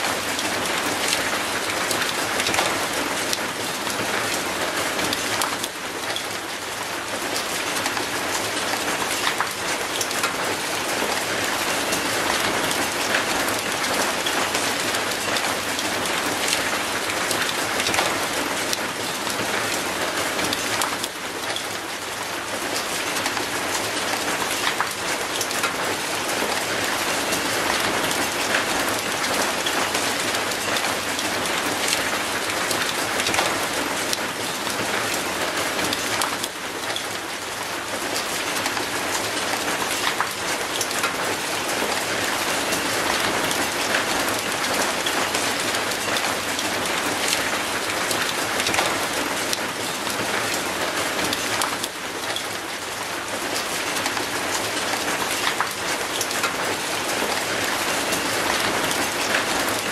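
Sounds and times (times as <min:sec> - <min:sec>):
rain on concrete and metal gate: 0:00.0 - 0:59.9.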